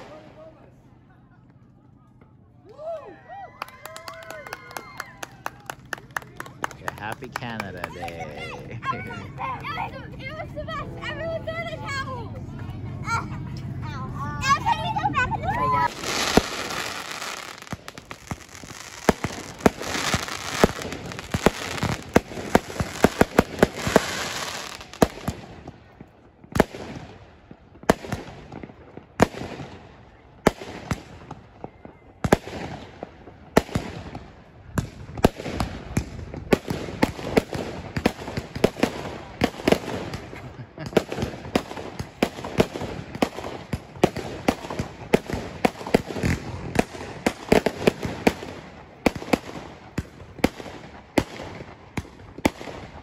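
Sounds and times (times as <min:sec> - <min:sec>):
fireworks bangs: 0:03.9 - 0:09.8, 0:15.7 - 0:53.0.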